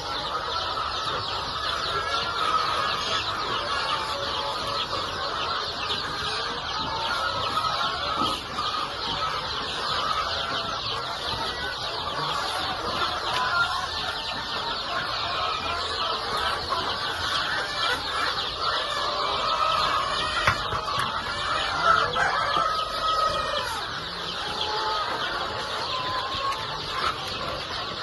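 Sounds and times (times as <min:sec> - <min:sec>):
hens clucking and chattering: 0:00.0 - 0:28.0.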